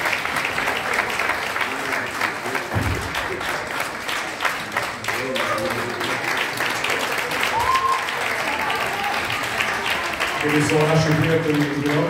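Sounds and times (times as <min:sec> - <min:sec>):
audience applauding: 0:00.0 - 0:12.0
voices in crowd: 0:00.0 - 0:12.0.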